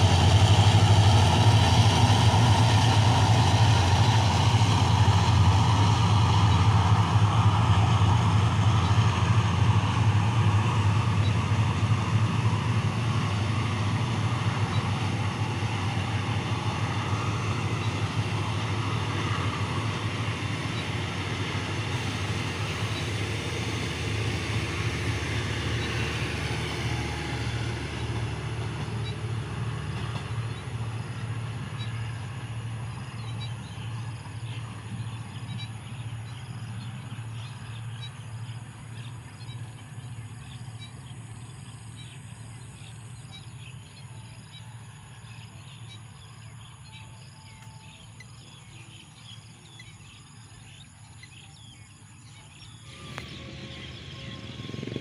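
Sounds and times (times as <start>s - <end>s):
train coaches rolling on rails: 0.0s - 55.0s.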